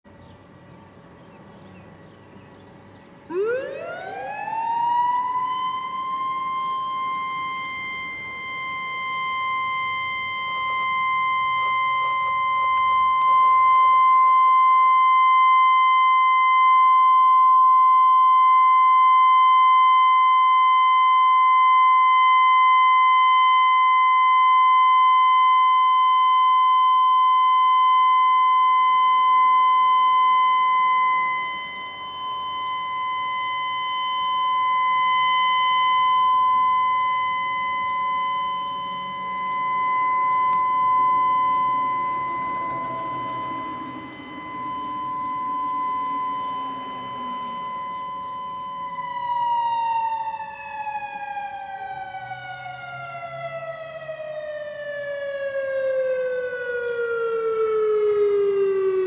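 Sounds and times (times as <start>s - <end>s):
high-pitched rotating siren: 2.8s - 59.0s.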